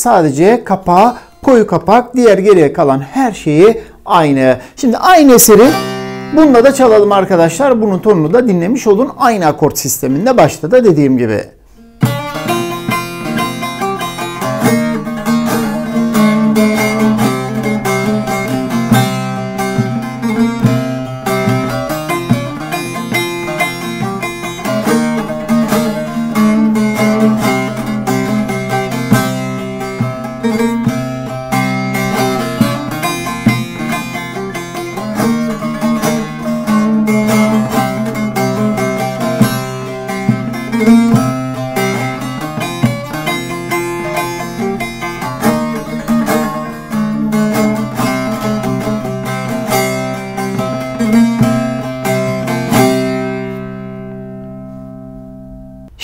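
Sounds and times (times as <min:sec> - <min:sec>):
long-necked lute strummed and picked: 0:00.0 - 0:56.0.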